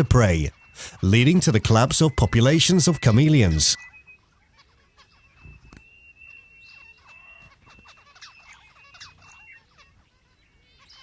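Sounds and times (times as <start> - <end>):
animal chirps: 0.0 - 11.0.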